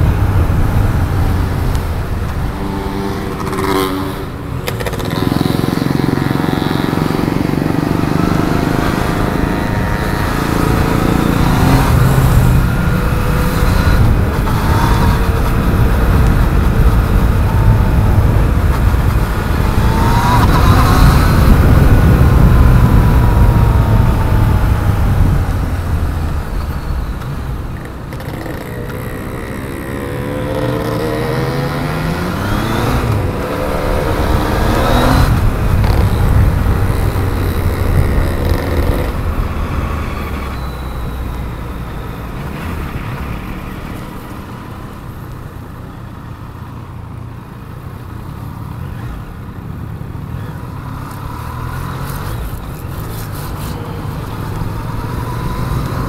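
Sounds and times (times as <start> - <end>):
motorcycle engine accelerating: 0.0 - 45.6.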